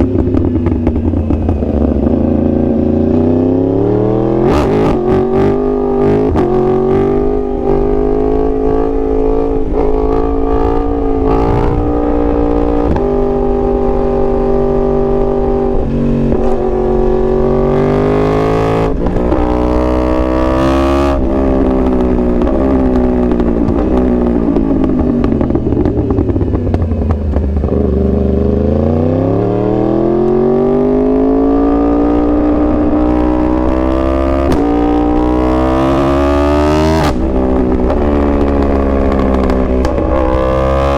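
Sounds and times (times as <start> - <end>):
motorcycle engine under load: 0.0 - 40.9.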